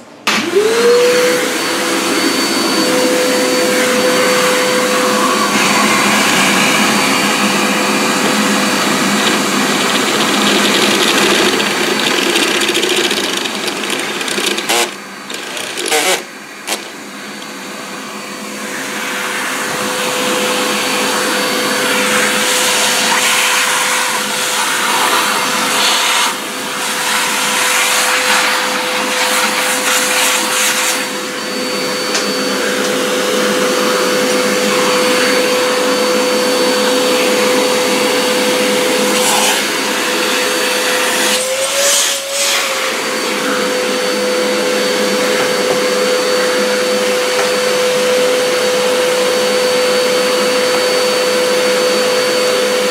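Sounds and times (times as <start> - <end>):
vacuum cleaner motor whining: 0.0 - 52.9.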